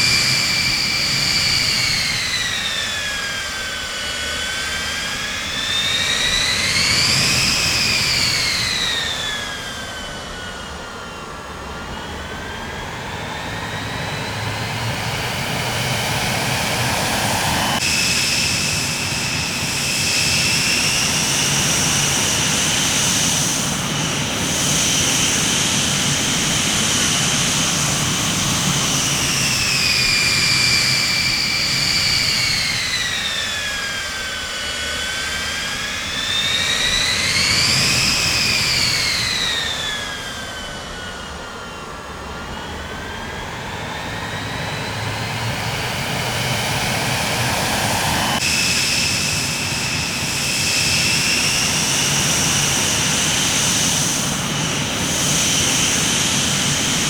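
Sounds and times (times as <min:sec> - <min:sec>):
jet engines roaring with turbine whine: 0:00.0 - 0:57.0.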